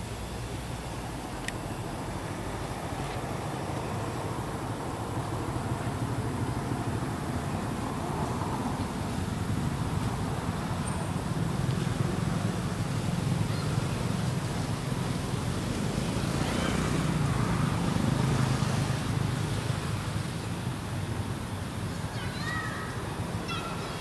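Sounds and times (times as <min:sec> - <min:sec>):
low rumbling outdoor noise: 0:00.0 - 0:24.0.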